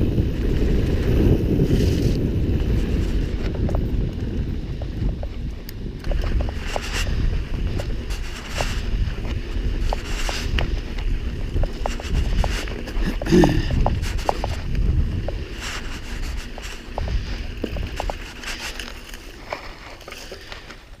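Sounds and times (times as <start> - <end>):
wind on microphone: 0.0 - 19.8
bike clicks and rattles: 0.0 - 21.0
bike tyres rumbling on dirt: 0.0 - 21.0.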